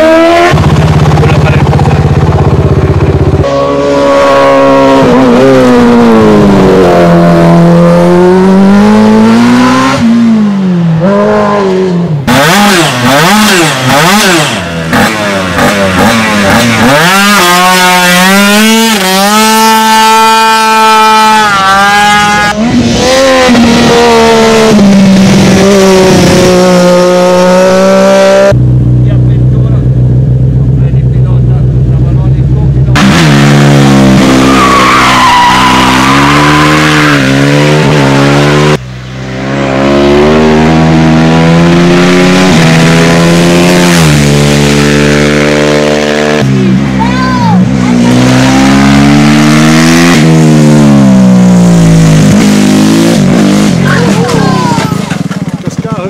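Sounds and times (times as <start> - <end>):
quad engine revving: 0.0 - 38.8, 39.4 - 56.0
scooter engine revving: 0.0 - 38.8, 39.4 - 56.0.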